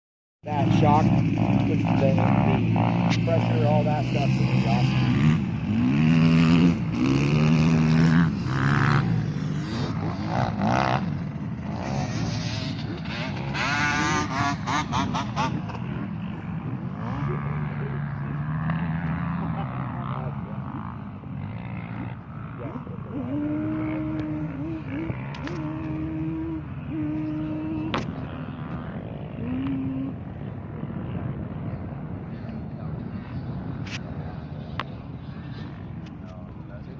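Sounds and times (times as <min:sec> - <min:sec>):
atv engine revving: 0:00.4 - 0:36.9.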